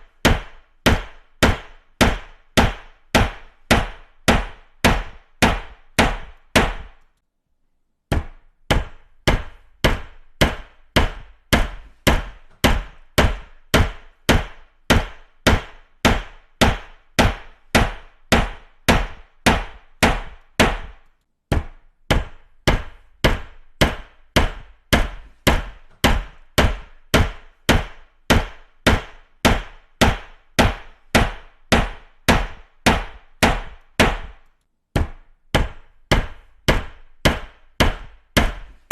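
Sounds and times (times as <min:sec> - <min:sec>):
hammer striking: 0:00.0 - 0:07.1, 0:08.1 - 0:38.9.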